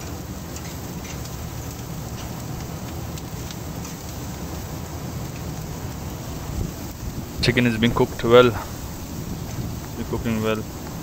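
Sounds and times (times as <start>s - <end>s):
charcoal grill crackling: 0.0s - 11.0s
low machinery rumble: 0.0s - 11.0s.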